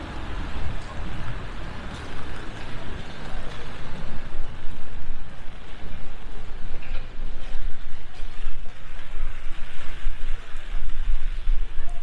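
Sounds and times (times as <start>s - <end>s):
rumble of vehicles: 0.0s - 12.0s
wet traffic: 0.0s - 12.0s.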